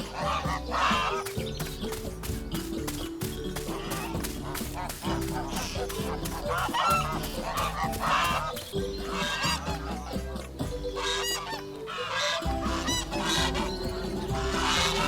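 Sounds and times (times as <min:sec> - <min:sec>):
background music: 0:00.0 - 0:15.0
cartoon farm bird calls: 0:00.0 - 0:15.0.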